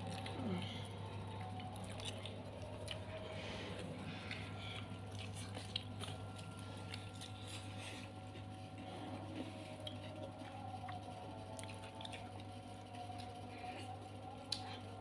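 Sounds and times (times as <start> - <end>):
low hum: 0.0 - 15.0
wet chewing sounds: 0.0 - 15.0.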